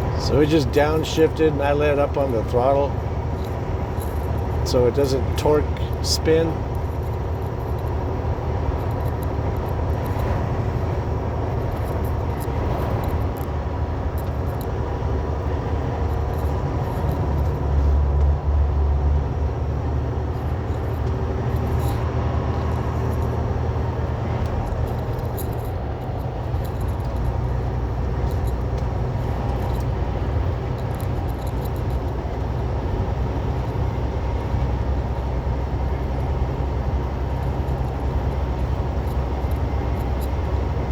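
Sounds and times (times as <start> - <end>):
diesel truck engine drone: 0.0 - 40.9
road noise: 0.0 - 40.9.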